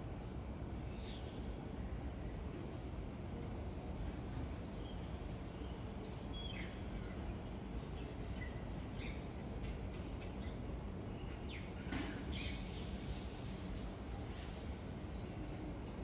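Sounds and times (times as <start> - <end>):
low urban background rumble: 0.0 - 16.0.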